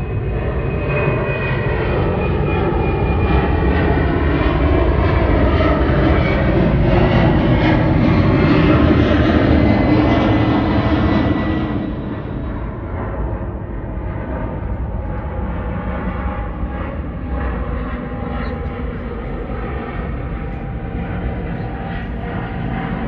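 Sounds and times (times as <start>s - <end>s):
jet airliner rumble: 0.0s - 23.0s.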